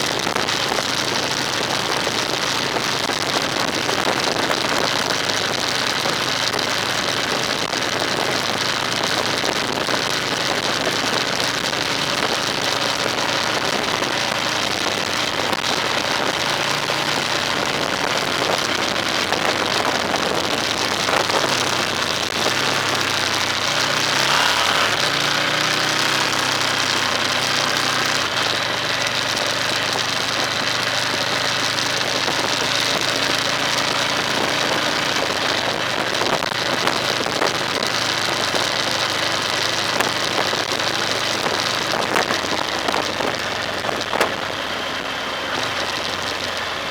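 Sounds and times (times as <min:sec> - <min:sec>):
car engine running: 0:00.0 - 0:46.9
road noise hiss: 0:00.0 - 0:46.9.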